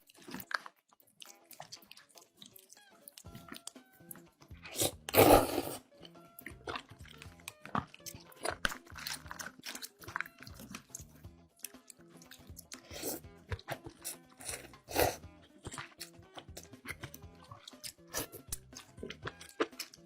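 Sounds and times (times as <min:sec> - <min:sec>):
crunchy bites and chewing: 0:00.0 - 0:20.0
quiet background music: 0:00.0 - 0:20.0.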